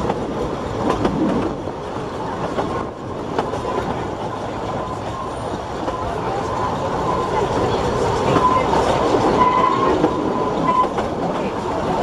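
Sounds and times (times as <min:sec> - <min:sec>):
wheels rumbling on track: 0:00.0 - 0:12.0.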